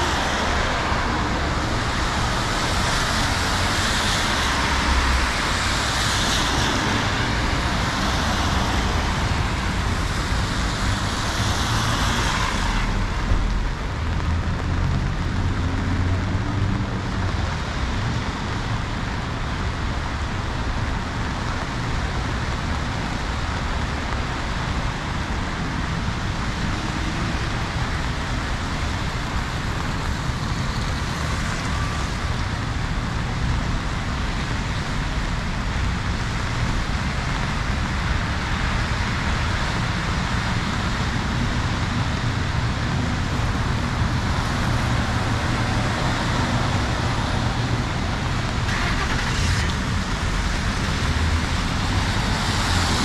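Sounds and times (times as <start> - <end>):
passing cars rumbling: 0.0 - 53.0
tyres hissing on wet road: 0.0 - 53.0.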